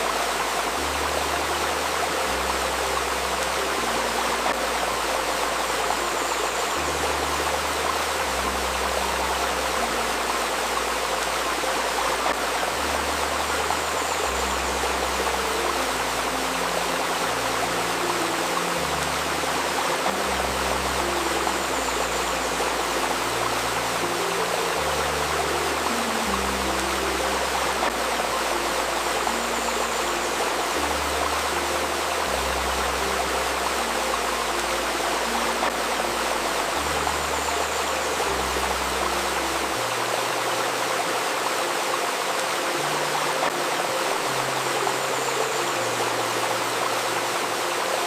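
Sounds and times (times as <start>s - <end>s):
babbling stream: 0.0s - 48.0s
soft low synth notes: 0.0s - 48.0s.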